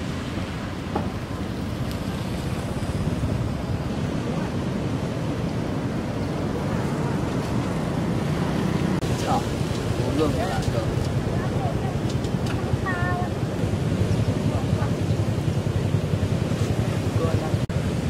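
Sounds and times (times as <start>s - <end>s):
sea surf: 0.0s - 18.0s
wind on microphone: 0.0s - 18.0s.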